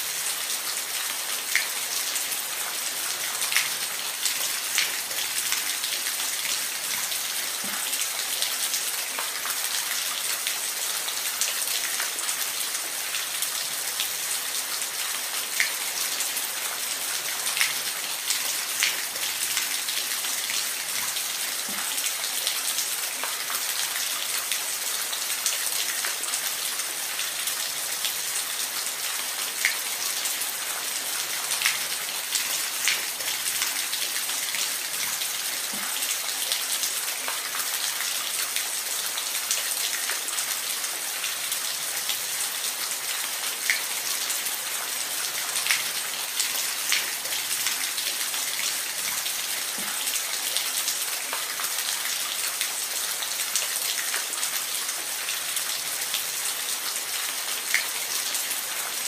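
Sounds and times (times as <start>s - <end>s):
water drips and splashes: 0.0s - 59.0s.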